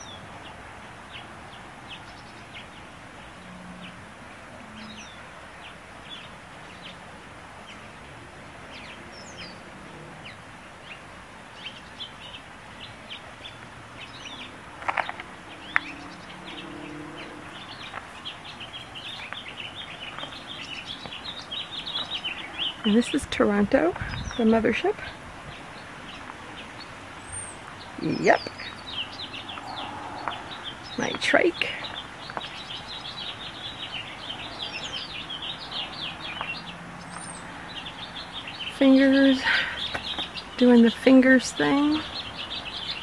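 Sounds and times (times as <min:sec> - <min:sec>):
outdoor background hiss: 0:00.0 - 0:43.0
songbirds chirping: 0:00.0 - 0:43.0.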